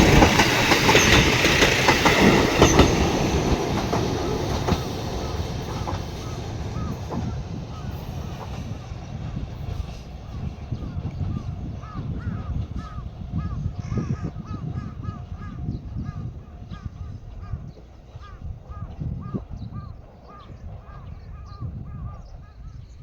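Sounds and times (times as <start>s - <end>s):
low wind rumble: 0.0s - 23.0s.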